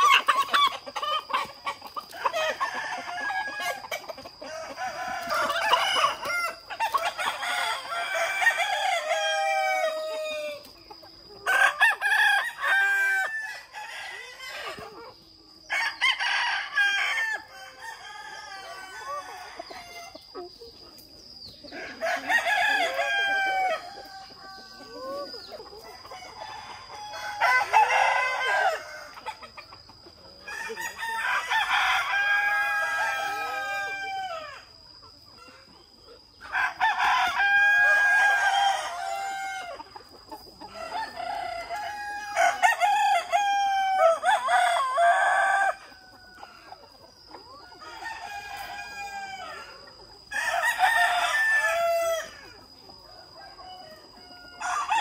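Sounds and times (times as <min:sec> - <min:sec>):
roosters crowing: 0:00.0 - 0:20.6, 0:21.6 - 0:34.8, 0:36.3 - 0:55.0
chicken clucking: 0:00.0 - 0:55.0.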